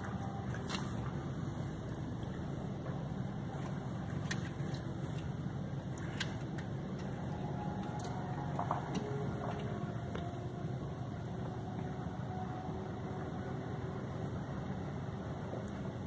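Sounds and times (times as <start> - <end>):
car engine rumble inside cabin: 0.0 - 16.0.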